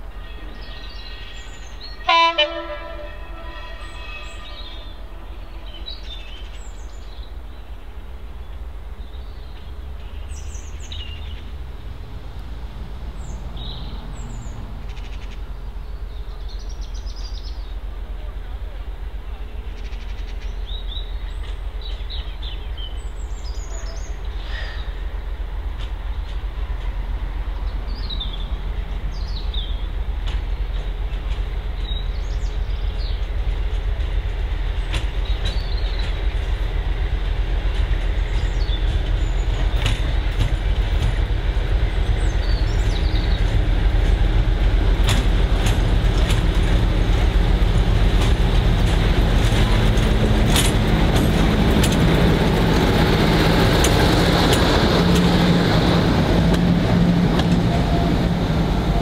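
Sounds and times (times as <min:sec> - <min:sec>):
diesel train engine rumble: 0:00.0 - 0:59.0
birds chirping: 0:03.6 - 0:11.6, 0:13.1 - 0:17.8, 0:19.3 - 0:59.0.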